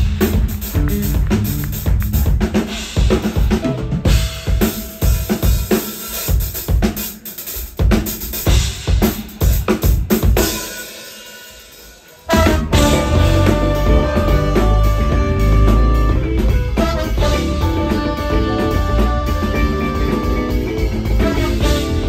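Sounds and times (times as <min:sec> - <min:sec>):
funk band with horns: 0:00.0 - 0:22.0
funk drum kit playing: 0:00.0 - 0:22.0.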